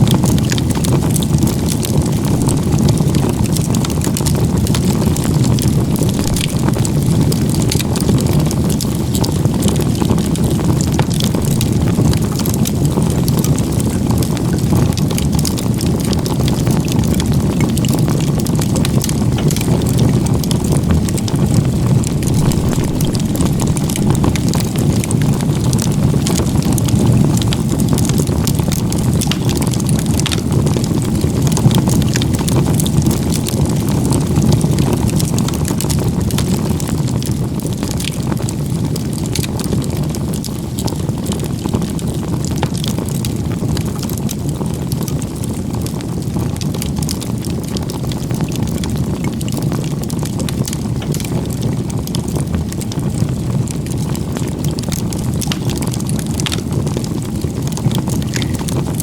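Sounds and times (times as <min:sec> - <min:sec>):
bonfire flames rumbling: 0:00.0 - 0:59.0
wood crackling and popping: 0:00.0 - 0:59.0.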